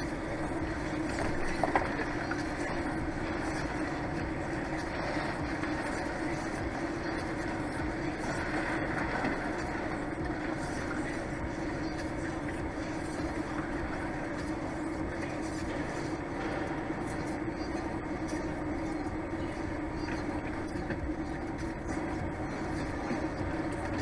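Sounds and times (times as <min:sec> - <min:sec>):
constant low hum: 0:00.0 - 0:24.0
truck engine and road noise: 0:00.0 - 0:24.0.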